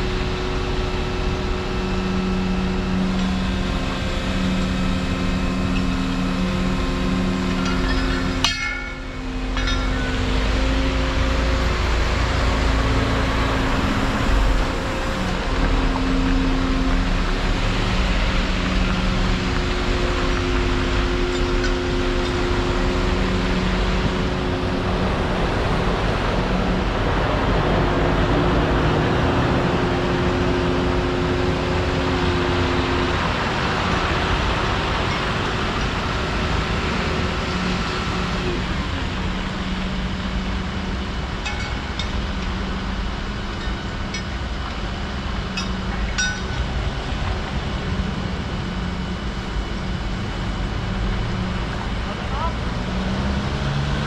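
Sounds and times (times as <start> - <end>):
bus passing: 0.0 - 54.0
excavator engine and hydraulics hum: 0.0 - 54.0
road traffic passing: 0.0 - 54.0.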